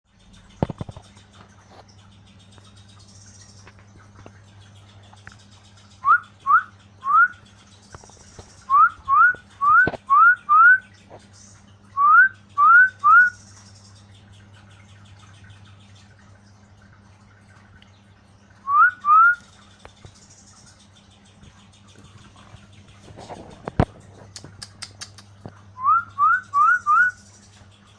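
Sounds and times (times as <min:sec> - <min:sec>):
faint steady hum: 0:00.1 - 0:27.9.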